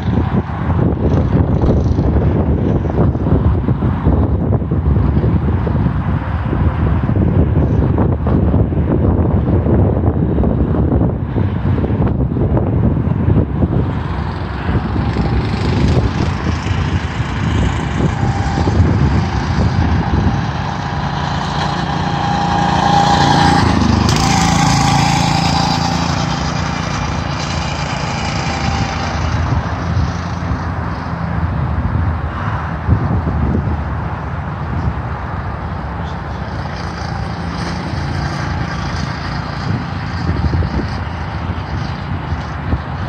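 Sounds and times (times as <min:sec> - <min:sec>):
go-kart engine whine: 0:00.0 - 0:43.0
wind buffeting microphone: 0:00.0 - 0:43.0.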